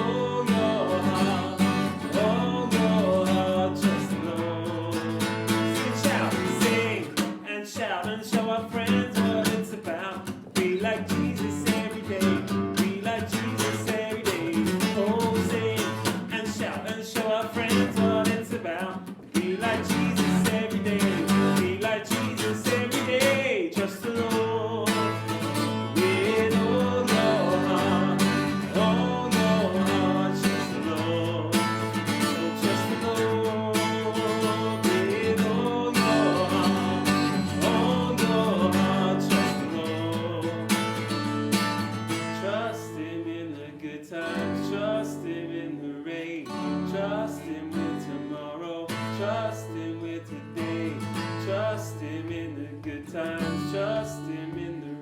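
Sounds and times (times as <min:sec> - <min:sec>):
person singing: 0:00.0 - 0:41.1, 0:42.1 - 0:55.0
strummed acoustic guitar: 0:00.0 - 0:43.6, 0:44.2 - 0:55.0.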